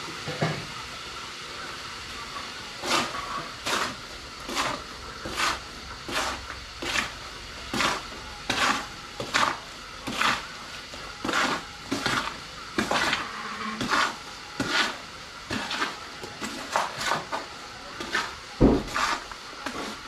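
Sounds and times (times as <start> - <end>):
tool scraping cement mix: 2.8 - 20.0.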